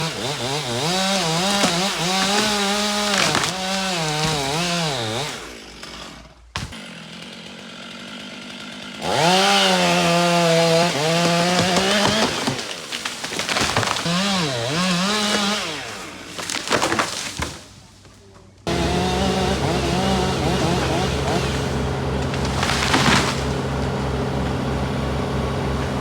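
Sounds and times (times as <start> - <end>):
chainsaw cutting wood: 0.0 - 17.7, 18.6 - 26.0.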